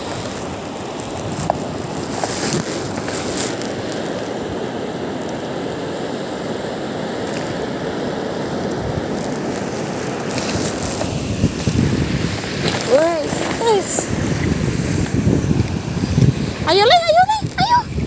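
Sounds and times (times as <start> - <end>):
surf washing on beach: 0.0 - 18.0.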